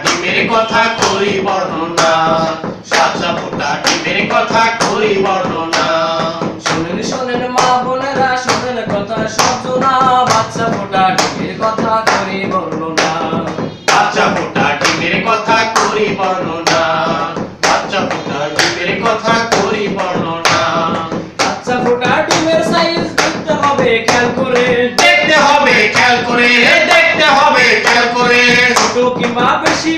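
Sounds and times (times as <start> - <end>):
men singing in unison: 0.0 - 29.9
sharp hand claps: 0.0 - 29.9.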